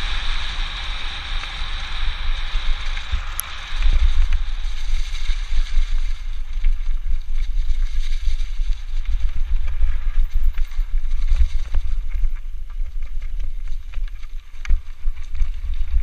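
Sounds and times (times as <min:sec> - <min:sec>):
bike rattling on gravel: 0:00.0 - 0:16.0
wind buffeting microphone: 0:00.0 - 0:16.0.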